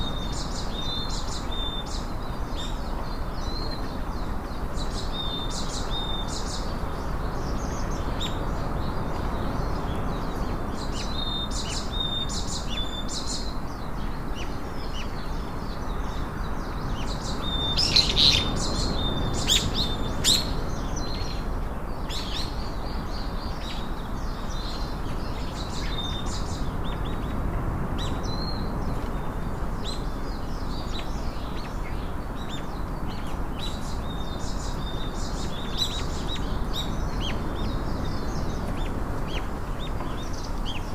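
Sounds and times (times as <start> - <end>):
small birds chirping: 0.0 - 40.9
steady background hiss: 0.0 - 40.9.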